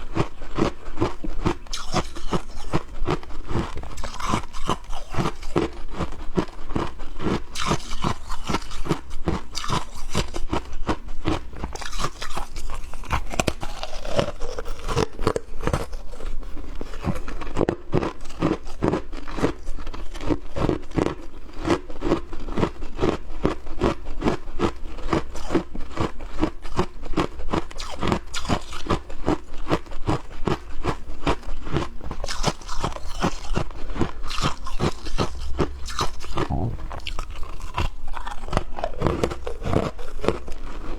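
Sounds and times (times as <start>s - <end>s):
frost being chewed crunching: 0.0s - 40.9s.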